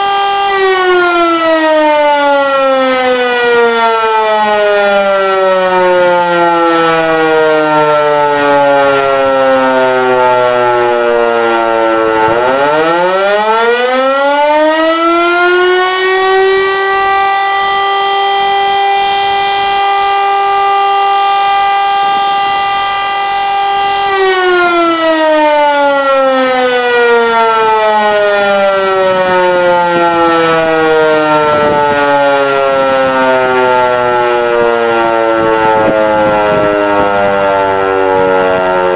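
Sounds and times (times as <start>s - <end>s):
electric motor siren: 0.0s - 38.9s.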